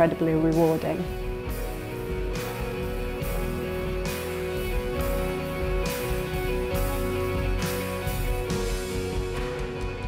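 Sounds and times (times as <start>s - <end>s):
background music with regular beat: 0.0s - 10.0s.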